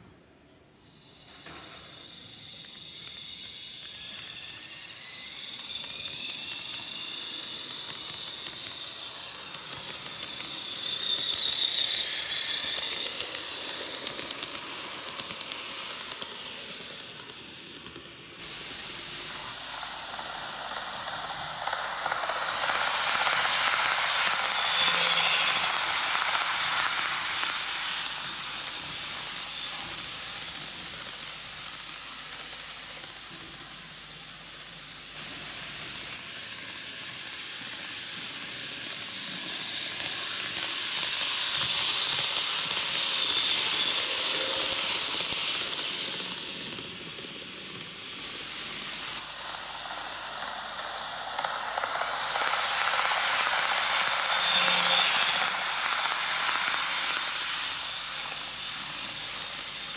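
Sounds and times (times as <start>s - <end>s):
model train whirring on rails: 0.0s - 59.9s.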